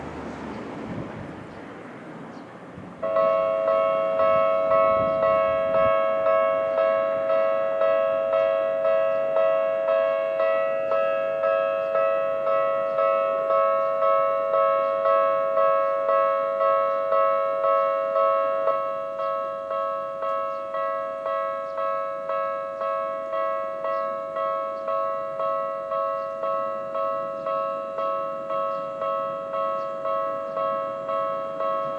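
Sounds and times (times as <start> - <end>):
level crossing alarm bell strokes: 3.0 - 31.9.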